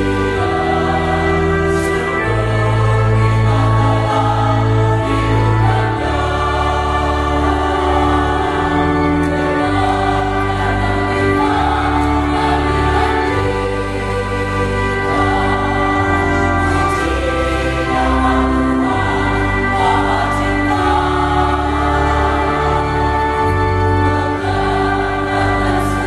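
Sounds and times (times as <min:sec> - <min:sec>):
choir singing a hymn: 0:00.0 - 0:26.0
electronic organ: 0:00.0 - 0:26.0.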